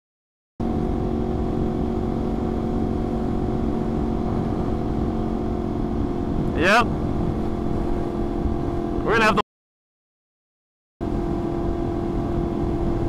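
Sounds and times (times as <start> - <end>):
motorcycle engine cruising: 0.6 - 9.3, 11.0 - 13.0
wind and road noise: 0.6 - 9.4, 11.0 - 13.0.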